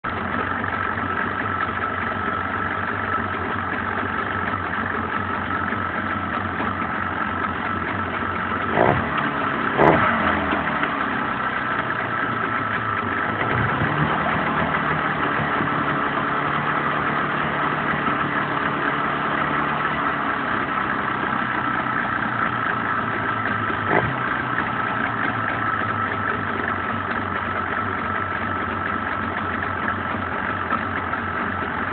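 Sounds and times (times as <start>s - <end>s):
boat engine idling: 0.0s - 31.9s.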